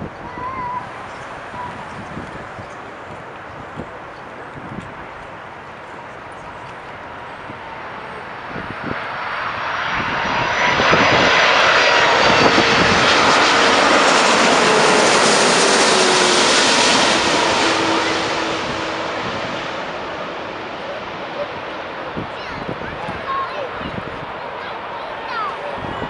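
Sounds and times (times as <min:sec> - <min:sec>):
jet airliner flying past: 0:00.0 - 0:26.0.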